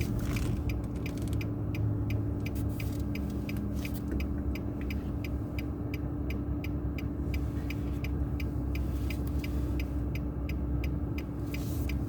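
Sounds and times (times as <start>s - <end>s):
road and tyre rumble: 0.0s - 12.0s
turn signal ticking: 0.0s - 12.0s.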